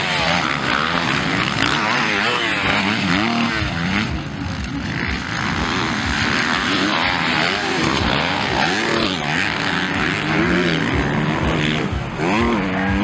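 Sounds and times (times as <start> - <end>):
motocross engines revving: 0.0 - 13.0.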